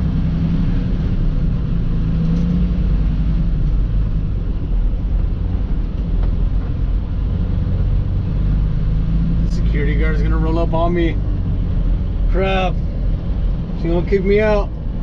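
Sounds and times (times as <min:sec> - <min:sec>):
truck engine low rumble: 0:00.0 - 0:15.0.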